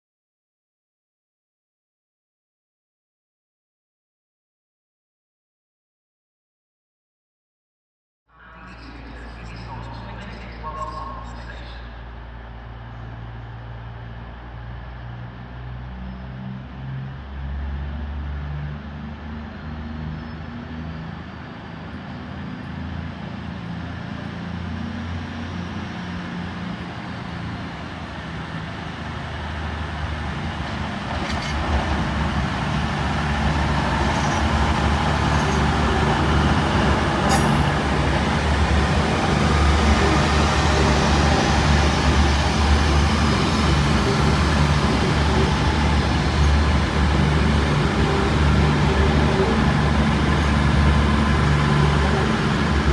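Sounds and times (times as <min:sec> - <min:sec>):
train diesel engines under power: 0:08.4 - 0:52.9.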